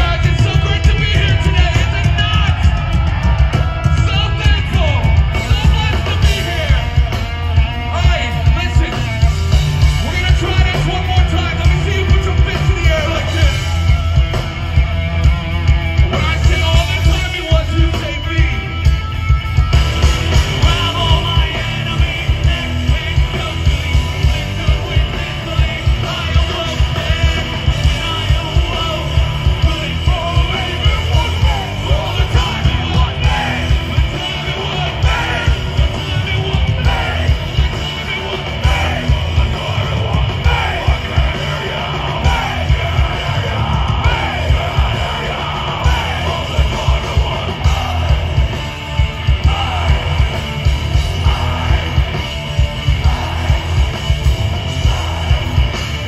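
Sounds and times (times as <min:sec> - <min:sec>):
shouted vocals: 0:00.0 - 0:18.9, 0:20.2 - 0:56.0
distorted electric guitar: 0:00.0 - 0:56.0
drums keeping a steady beat: 0:00.0 - 0:56.0.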